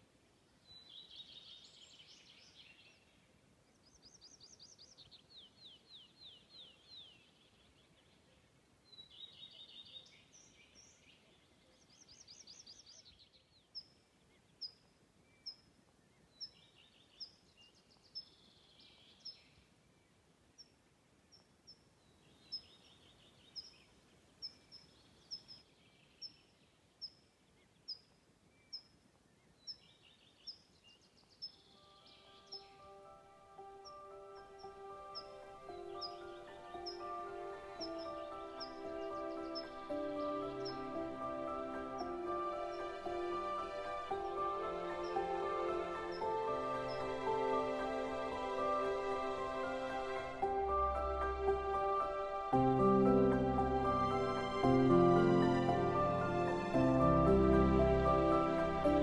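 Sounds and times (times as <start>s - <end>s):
soft bird song phrases: 0.0s - 59.0s
trilling birdsong: 0.5s - 59.0s.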